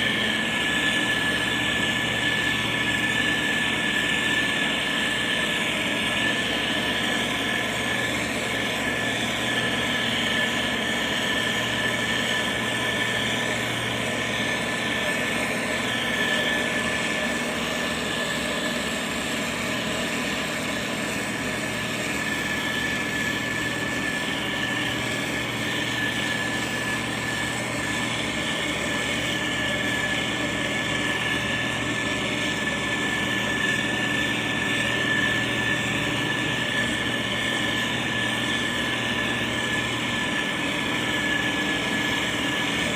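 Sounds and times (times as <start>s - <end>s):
constant high whine: 0.0s - 42.9s
diesel engine running: 0.0s - 42.9s.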